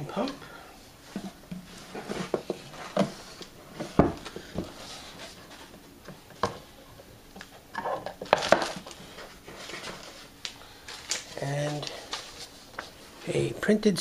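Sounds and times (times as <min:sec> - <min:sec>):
rustling: 0:00.1 - 0:06.8, 0:07.5 - 0:13.5.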